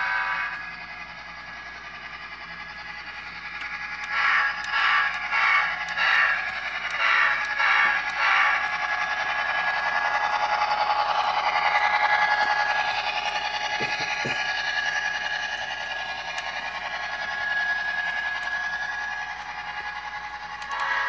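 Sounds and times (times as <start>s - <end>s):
electric motor whine: 0.0s - 21.0s
wheels rattling on rails: 0.0s - 21.0s.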